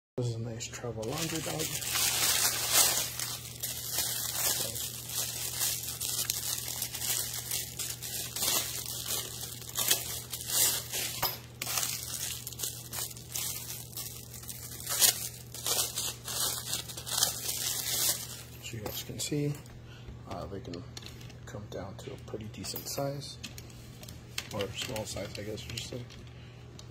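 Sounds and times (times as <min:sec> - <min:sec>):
plastic bags crinkling: 0:00.8 - 0:19.6, 0:23.0 - 0:26.4.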